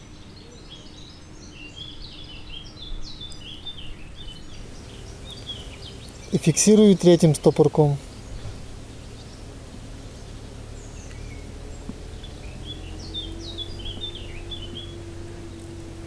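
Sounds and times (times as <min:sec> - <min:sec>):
faint steady hum: 0:00.0 - 0:16.0
low background rumble: 0:00.0 - 0:16.0
small birds chirping: 0:00.0 - 0:16.0.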